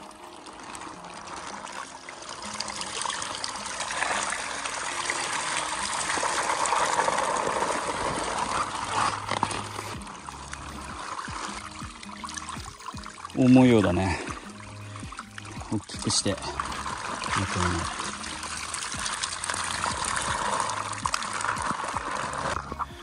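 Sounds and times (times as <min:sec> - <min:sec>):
water pouring and splashing: 0:00.0 - 0:23.0.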